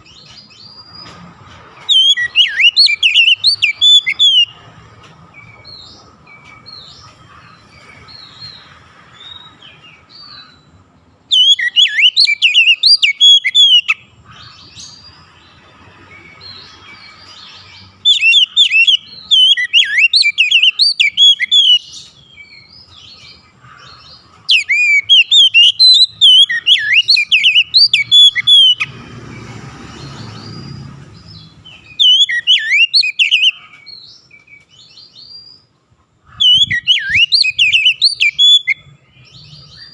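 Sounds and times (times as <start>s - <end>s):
magpie-robin singing: 1.8s - 4.7s, 5.3s - 39.9s.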